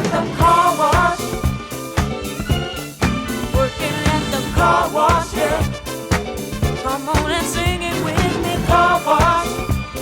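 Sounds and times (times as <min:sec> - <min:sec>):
funk soul music with beat: 0:00.0 - 0:10.0.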